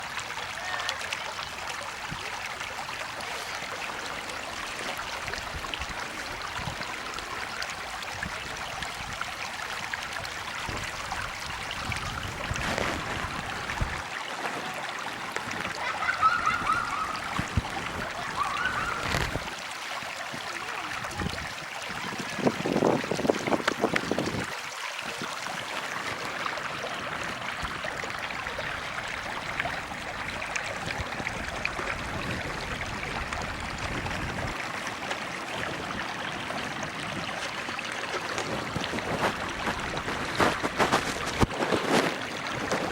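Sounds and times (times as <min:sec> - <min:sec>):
water running over rocks: 0:00.0 - 0:42.9.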